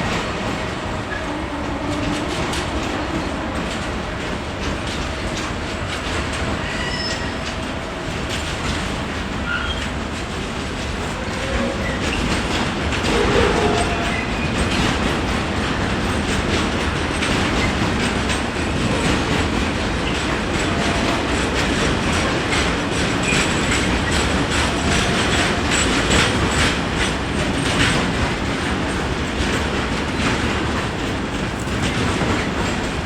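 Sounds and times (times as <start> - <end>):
train wheels clattering over rail joints: 0.0 - 33.0.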